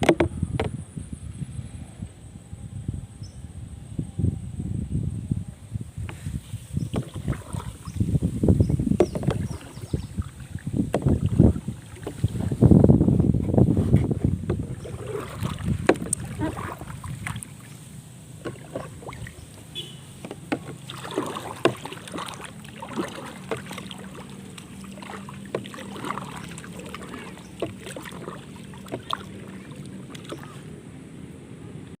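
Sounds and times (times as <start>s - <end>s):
water splashing against boat: 0.0s - 1.0s, 5.8s - 31.9s
wind buffeting microphone: 0.0s - 31.0s.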